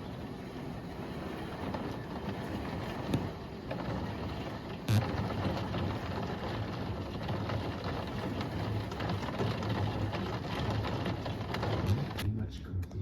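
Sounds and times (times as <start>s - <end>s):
dense patter of rain: 0.0s - 12.2s.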